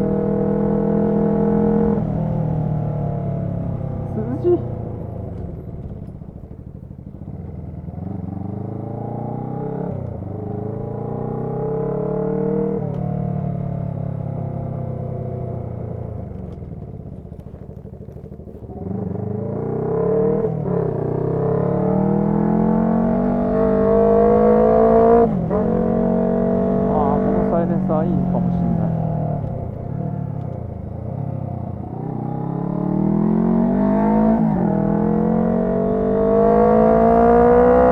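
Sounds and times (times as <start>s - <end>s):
motorcycle engine shifting gears: 0.0s - 37.9s.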